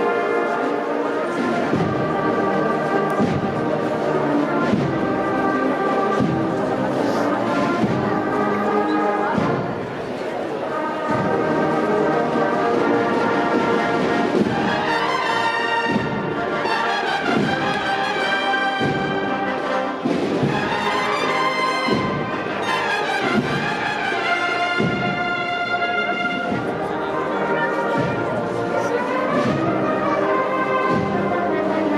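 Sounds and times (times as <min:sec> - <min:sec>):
brass band playing: 0:00.0 - 0:31.9.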